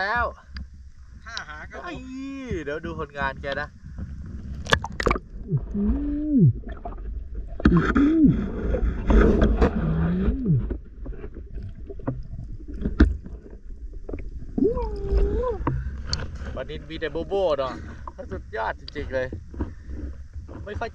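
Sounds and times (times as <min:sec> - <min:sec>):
water sloshing underwater: 0:00.0 - 0:20.9
muffled rising and falling hums: 0:00.4 - 0:20.5.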